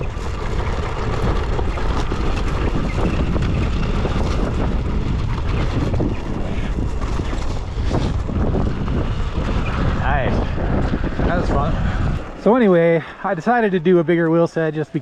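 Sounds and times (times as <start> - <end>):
bike tyres crunching on gravel: 0.0 - 15.0
wind rushing over microphone: 0.0 - 15.0.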